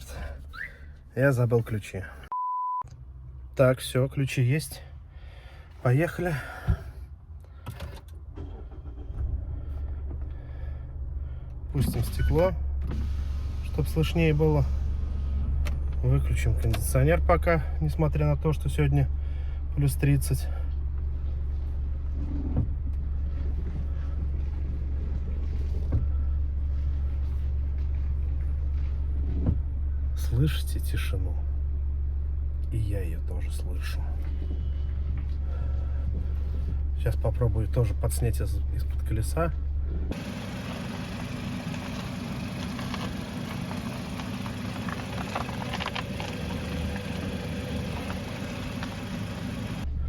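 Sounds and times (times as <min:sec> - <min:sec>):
engine and road hum: 0:00.0 - 0:50.0
car driving rumble from inside: 0:08.3 - 0:50.0.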